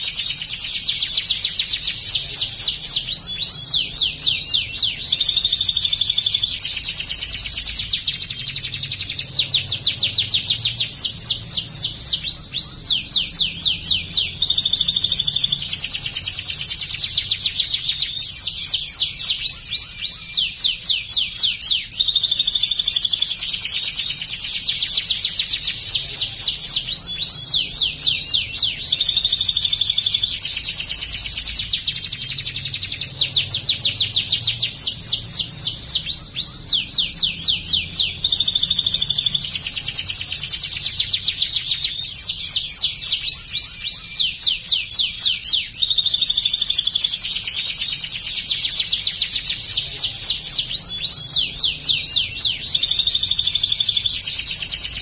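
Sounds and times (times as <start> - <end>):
canary singing with trills: 0.0 - 55.0.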